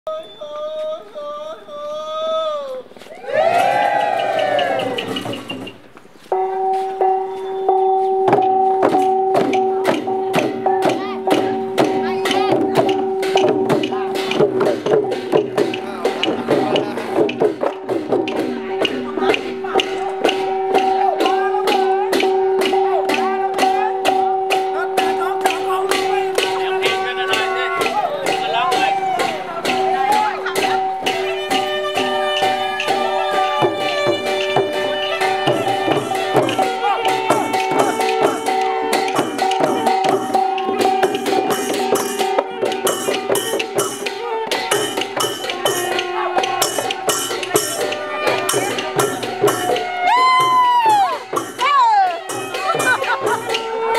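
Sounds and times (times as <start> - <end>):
procession drums and cymbals: 2.8 - 53.9
wavering melody: 3.6 - 53.9.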